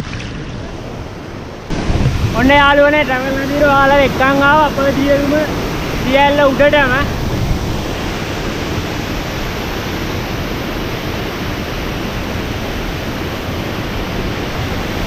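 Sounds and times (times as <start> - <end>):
waterfall rushing over rock: 0.7 - 15.0.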